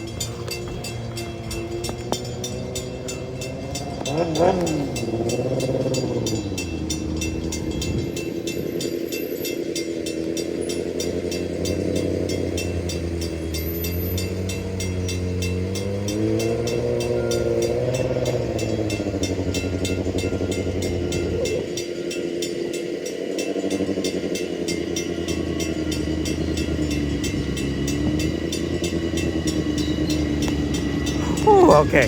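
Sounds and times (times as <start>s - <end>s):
crossing bell ringing rapidly: 0.0s - 32.0s.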